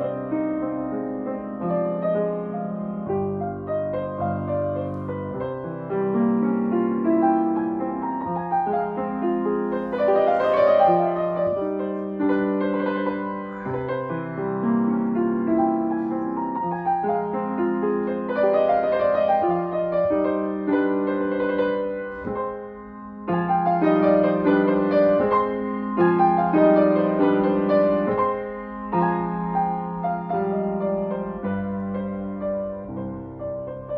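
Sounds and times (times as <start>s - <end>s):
grand piano melody over chords: 0.0s - 33.9s.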